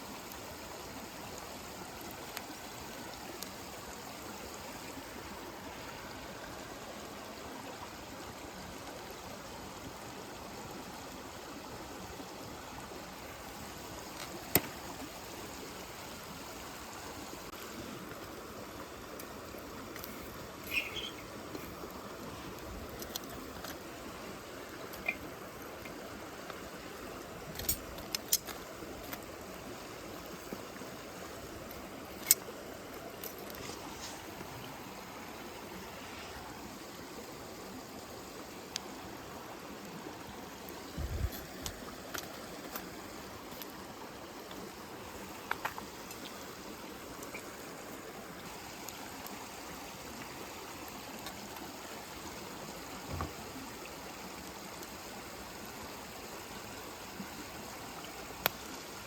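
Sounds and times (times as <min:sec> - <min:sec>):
campfire hissing and crackling: 0:00.0 - 0:59.0.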